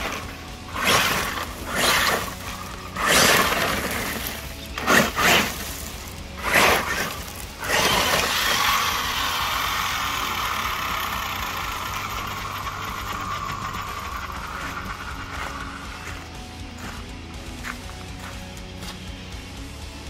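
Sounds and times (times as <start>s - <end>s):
toy truck crashing on gravel: 0.0s - 16.2s
electric motor whining: 0.0s - 18.3s.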